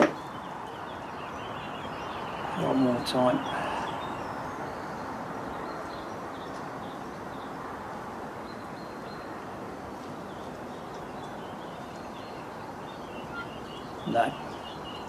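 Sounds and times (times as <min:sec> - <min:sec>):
small birds chirping: 0:00.0 - 0:15.0
wind: 0:00.0 - 0:15.0.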